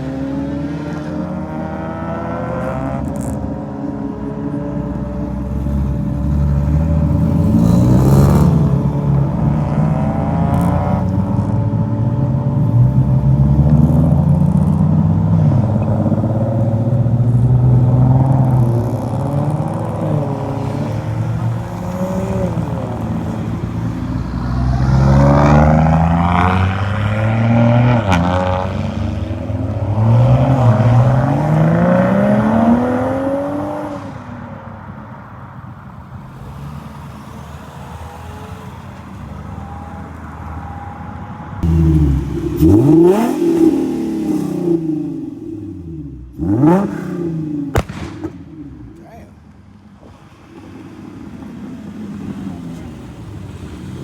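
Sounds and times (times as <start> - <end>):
car engines revving and accelerating: 0.0 - 54.0.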